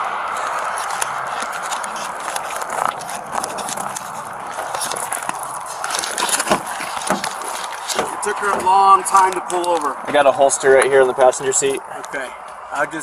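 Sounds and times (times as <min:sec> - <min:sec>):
footsteps on gravel: 0:00.1 - 0:12.9.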